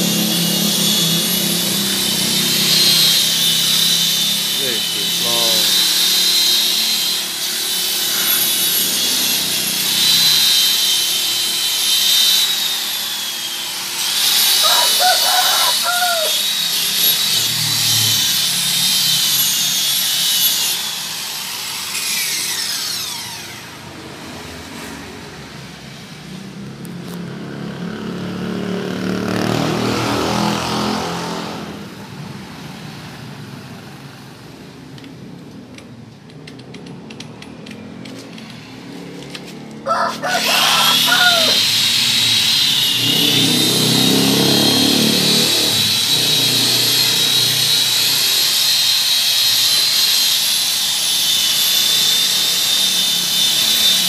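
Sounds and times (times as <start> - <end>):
rotary polisher motor whine: 0.0 - 28.1, 38.1 - 54.0.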